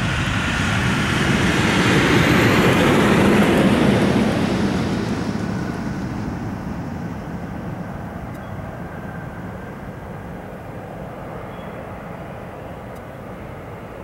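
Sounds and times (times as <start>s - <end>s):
jet engines at takeoff: 0.0s - 14.0s
faint steady whine: 2.0s - 14.0s.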